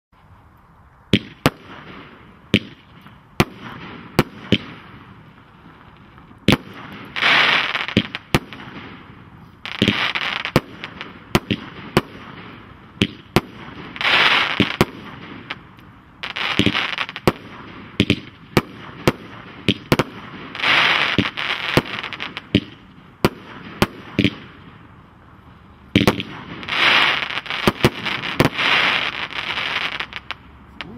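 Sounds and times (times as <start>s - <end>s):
firework crackling: 0.2s - 30.9s
firework bangs: 1.1s - 24.9s, 25.8s - 30.9s.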